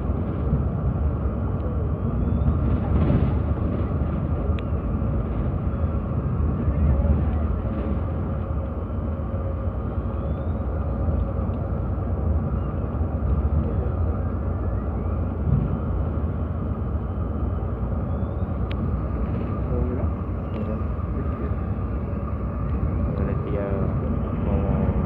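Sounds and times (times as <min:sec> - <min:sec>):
diesel engine drone: 0:00.0 - 0:25.0
road and tyre noise: 0:00.0 - 0:25.0.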